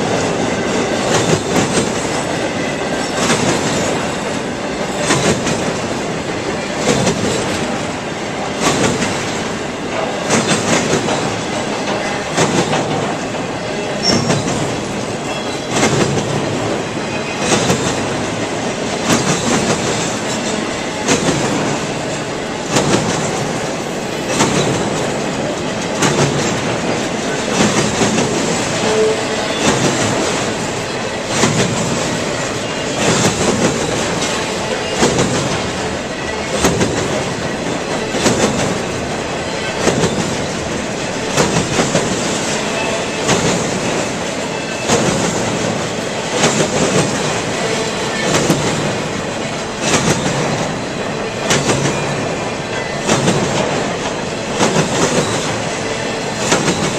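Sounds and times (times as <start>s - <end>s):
steel wheels rumbling on rail: 0.0s - 56.9s
wheels clacking over rail joints: 0.0s - 56.9s.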